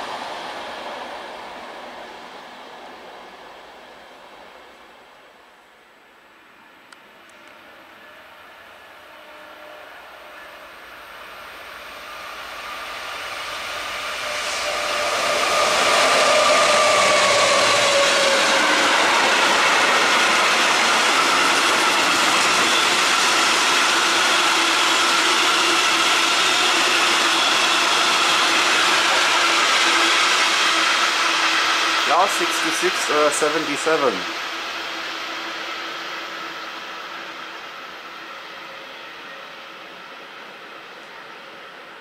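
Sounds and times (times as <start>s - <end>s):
diesel locomotive passing: 0.0s - 42.0s.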